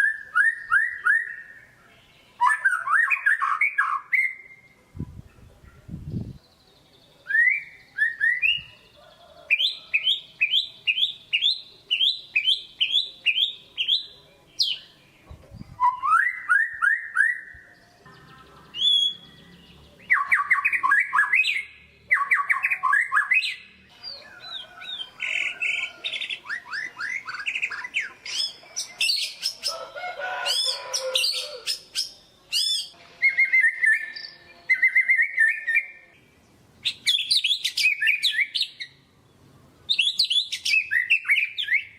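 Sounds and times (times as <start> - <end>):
songbird singing varied whistles: 0.0 - 4.8, 7.0 - 8.9, 9.5 - 17.6, 18.7 - 19.4, 20.0 - 29.7, 30.5 - 36.0, 36.8 - 39.0, 39.9 - 41.9.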